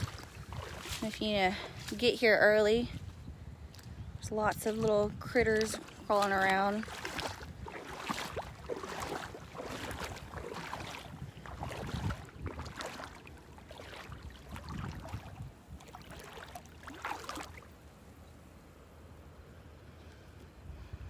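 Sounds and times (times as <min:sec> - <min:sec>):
water splashing and lapping: 0:00.0 - 0:03.0, 0:03.7 - 0:18.2
wind on the microphone: 0:00.0 - 0:17.6.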